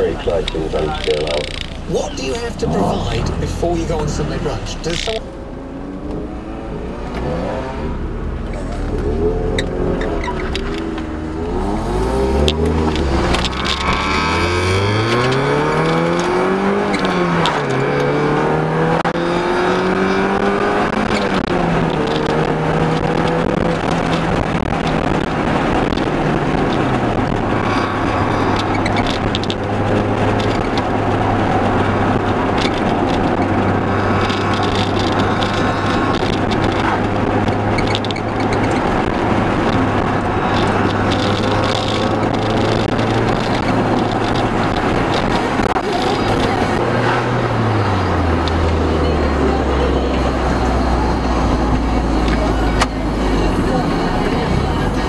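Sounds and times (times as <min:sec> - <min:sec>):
car engine accelerating: 0:00.0 - 0:55.0
road and wind noise: 0:00.0 - 0:55.0.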